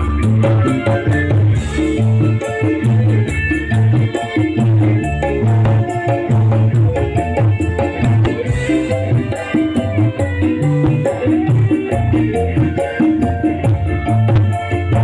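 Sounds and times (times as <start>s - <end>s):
instrumental drum band music: 0.0s - 15.0s.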